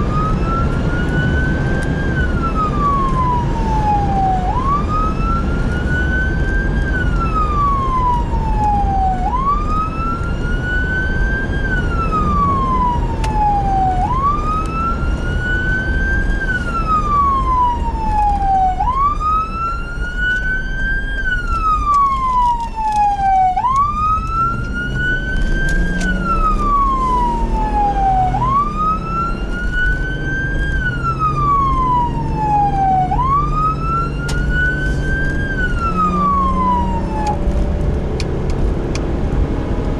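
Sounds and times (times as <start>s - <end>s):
engine and road rumble: 0.0s - 39.9s
fire engine siren wailing: 0.0s - 39.9s.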